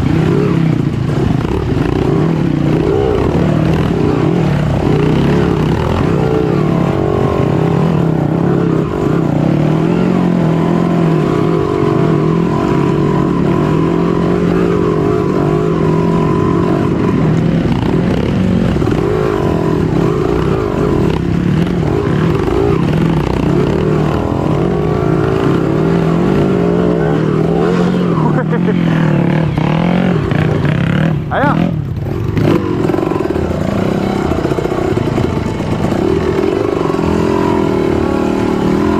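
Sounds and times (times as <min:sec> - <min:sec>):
motorcycle engine revving under load: 0:00.0 - 0:38.9.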